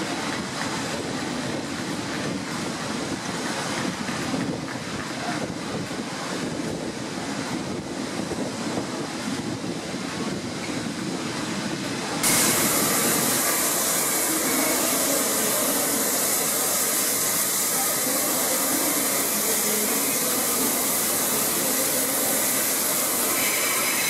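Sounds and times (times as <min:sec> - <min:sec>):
steam hissing: 0:00.0 - 0:24.0
train wheels rumbling: 0:00.0 - 0:24.0.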